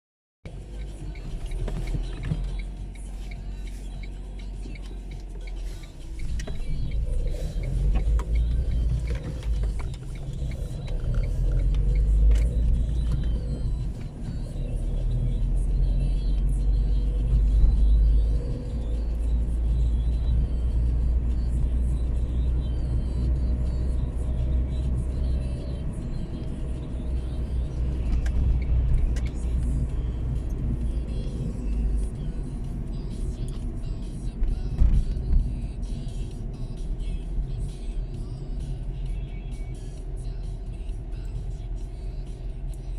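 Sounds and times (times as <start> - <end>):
car engine and tyres rumbling: 0.4 - 42.9.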